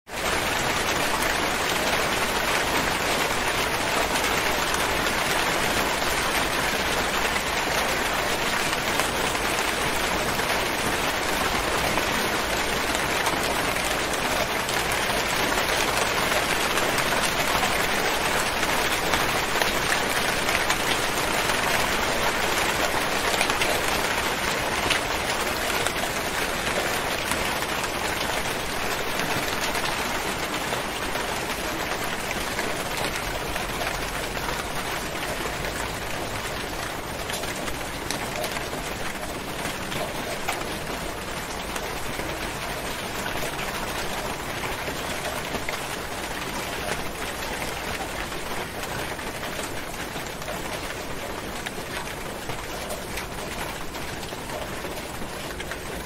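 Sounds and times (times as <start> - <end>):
steady rainfall: 0.1 - 56.0.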